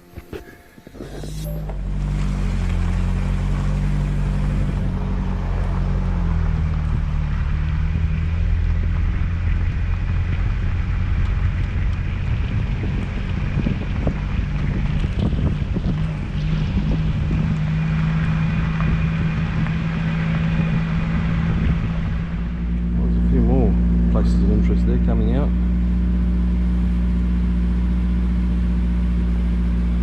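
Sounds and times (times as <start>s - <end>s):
truck engine droning: 0.0s - 30.0s.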